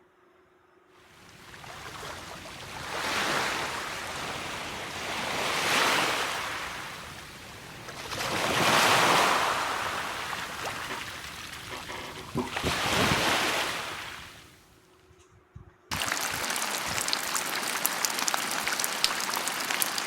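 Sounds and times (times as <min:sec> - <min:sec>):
waves washing in: 0:01.1 - 0:14.7, 0:15.9 - 0:20.0.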